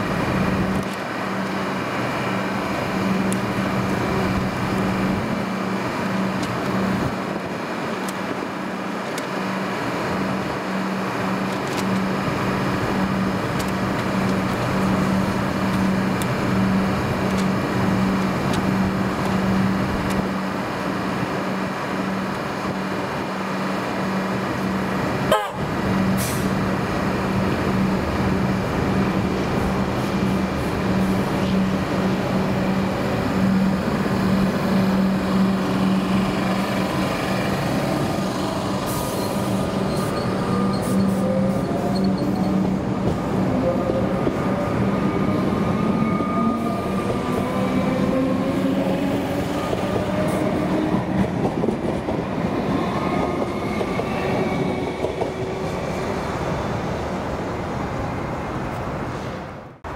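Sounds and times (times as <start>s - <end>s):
rail clicks: 0.0s - 57.4s
electric train hum: 0.0s - 59.9s
rumbling wheels on rails: 0.0s - 59.9s.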